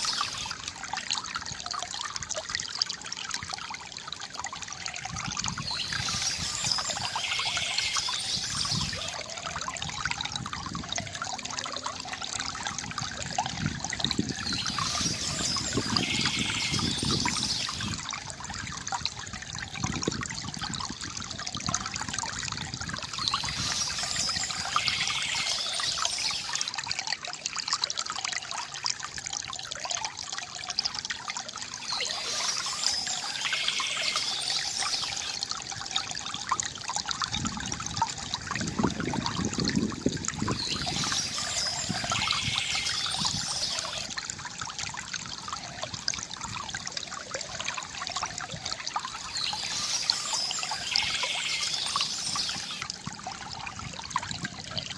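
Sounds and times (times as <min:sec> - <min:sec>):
brighter water splashing: 0:00.0 - 0:54.9
deep water gurgle: 0:00.0 - 0:54.9
fountain water trickling and splashing: 0:00.0 - 0:54.9.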